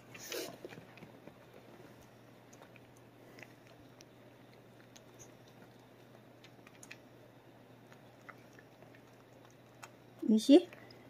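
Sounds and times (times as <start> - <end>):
low room hum: 0.0 - 11.0
dog chewing kibble: 0.1 - 7.2, 7.8 - 11.0.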